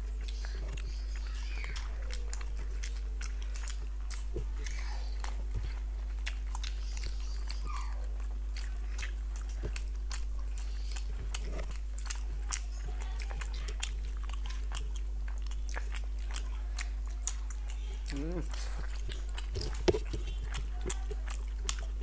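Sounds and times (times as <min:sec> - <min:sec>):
people chewing and lip smacking: 0:00.0 - 0:22.0.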